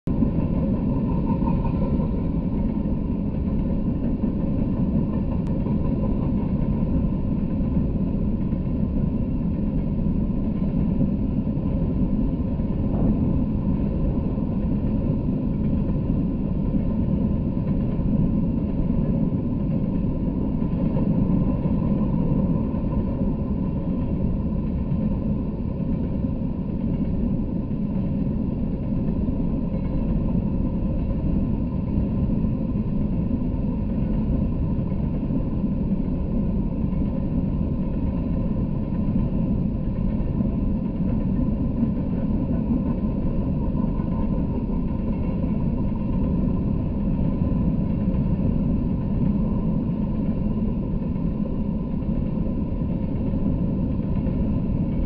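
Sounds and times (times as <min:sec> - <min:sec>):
freight train wheels rumbling: 0:00.1 - 0:55.0.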